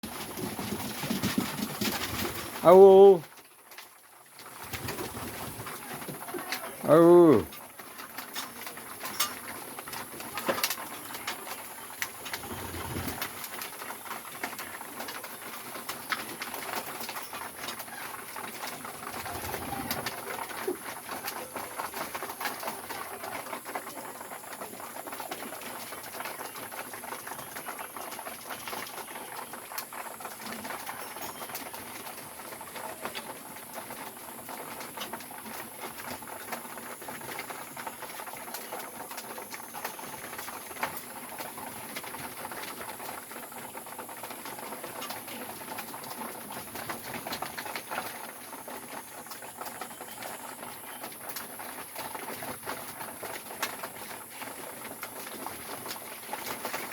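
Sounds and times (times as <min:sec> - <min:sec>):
pigeons pecking grain: 0:00.0 - 0:56.9.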